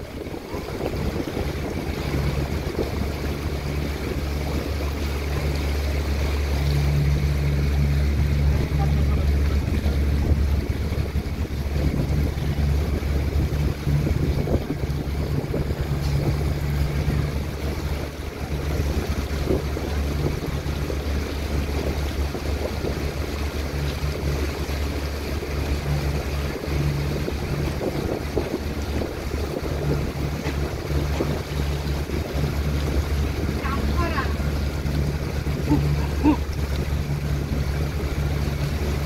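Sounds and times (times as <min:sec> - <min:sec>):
motorboat engine humming: 0:00.0 - 0:39.0
water splashing along hull: 0:00.0 - 0:39.0
wind on microphone: 0:00.0 - 0:39.0.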